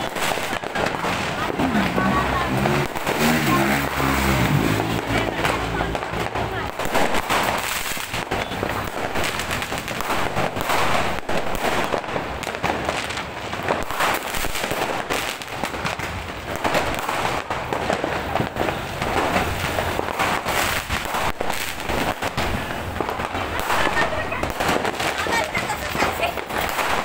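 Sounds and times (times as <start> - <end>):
fireworks and firecrackers crackling: 0.0 - 27.0.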